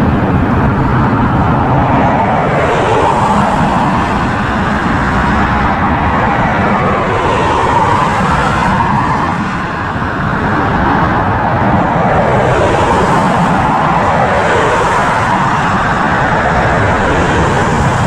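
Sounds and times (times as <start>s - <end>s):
jet airliner engine noise: 0.0s - 18.0s.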